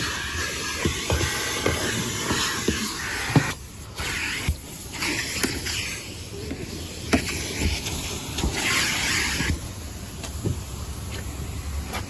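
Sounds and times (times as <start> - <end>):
vacuum hose sucking: 0.0 - 10.2.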